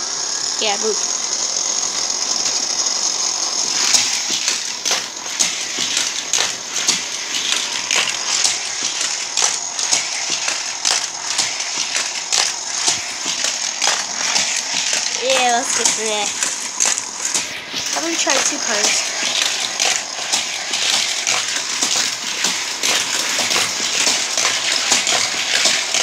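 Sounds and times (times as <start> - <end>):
toy car clattering on plastic track: 0.0 - 26.0
toy track booster whining: 0.0 - 26.0.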